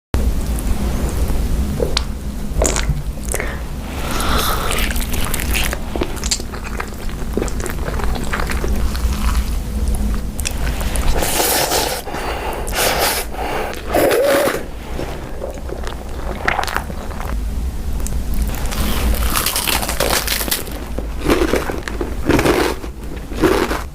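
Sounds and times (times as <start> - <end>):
person chewing crunchy food: 2.6 - 17.4, 18.0 - 23.9.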